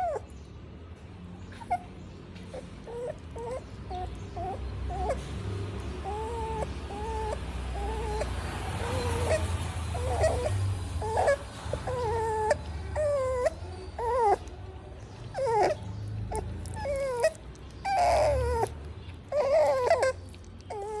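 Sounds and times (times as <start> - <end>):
puppy whimpering and crying: 0.0 - 0.4, 1.4 - 21.0.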